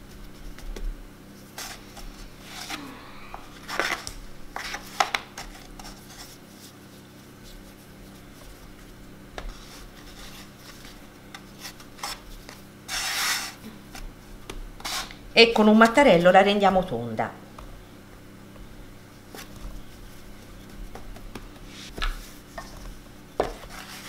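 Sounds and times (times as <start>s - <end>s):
hands rubbing bread dough: 0.0s - 2.7s, 3.6s - 15.2s, 19.0s - 24.0s.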